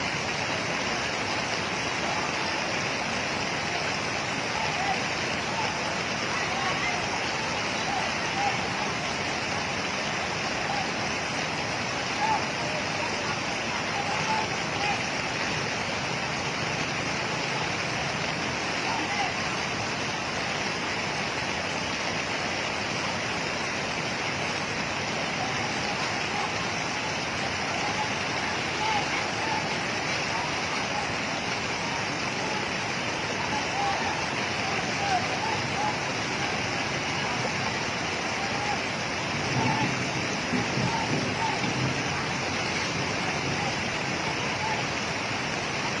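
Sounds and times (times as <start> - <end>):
faint voices: 0.0 - 46.0
water rushing: 0.0 - 46.0.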